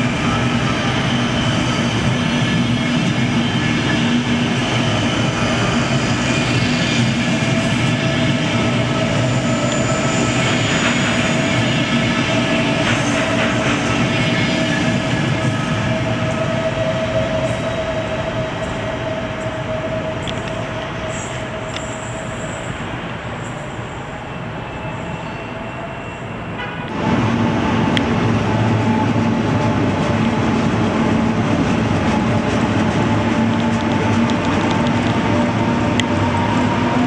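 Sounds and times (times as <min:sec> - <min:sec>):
close train low drone: 0:00.0 - 0:37.0
passenger train running past: 0:00.0 - 0:37.0
train whine: 0:00.0 - 0:37.0.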